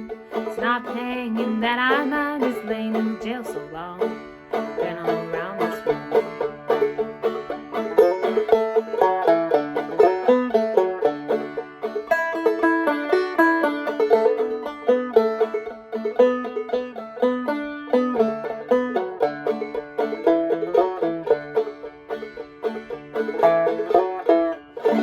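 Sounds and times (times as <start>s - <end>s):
banjo plucking: 0.0s - 25.0s.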